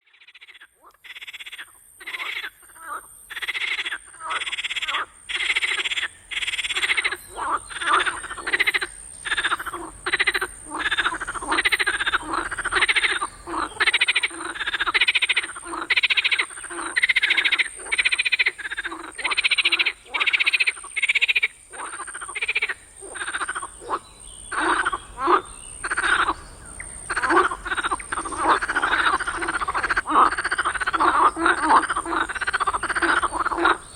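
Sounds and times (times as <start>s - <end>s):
frogs croaking: 0.0s - 33.9s.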